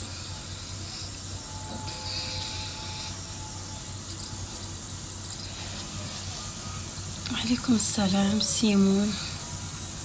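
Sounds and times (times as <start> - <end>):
room noise hum and hiss: 0.0 - 10.0.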